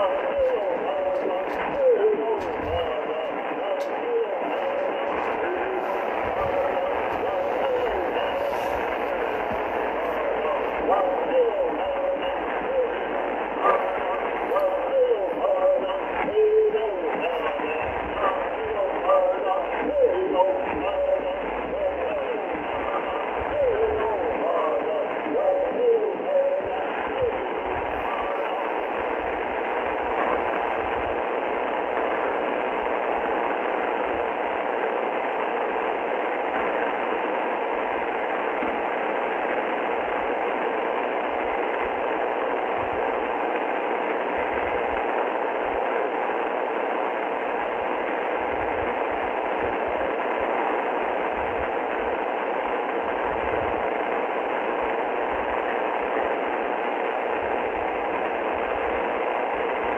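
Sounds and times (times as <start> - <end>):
shortwave radio static hiss: 0.0 - 59.9.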